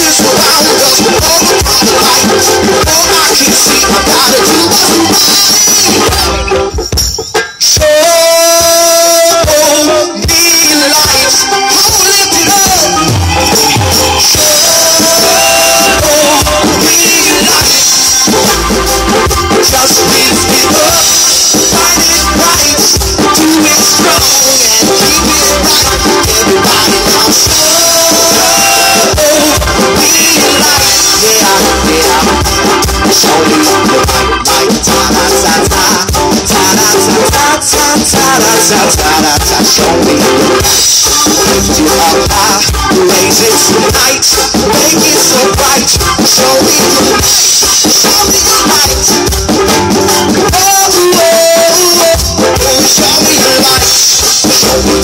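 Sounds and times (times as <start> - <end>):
electric guitars: 0.0 - 55.0
rock band playing live: 0.0 - 55.0
steady drum beat: 0.0 - 55.0.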